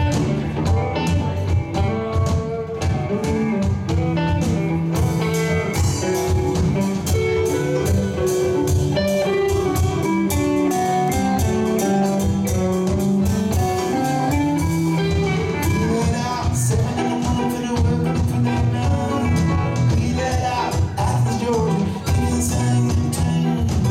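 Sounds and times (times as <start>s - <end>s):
drum beat: 0.0s - 23.9s
electric bass: 0.0s - 23.9s
electric guitars: 0.0s - 23.9s
keyboard: 0.0s - 23.9s.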